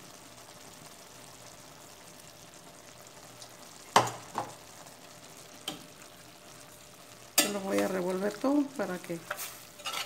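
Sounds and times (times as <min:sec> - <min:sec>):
meat sizzling in a clay pot: 0:00.0 - 0:10.0.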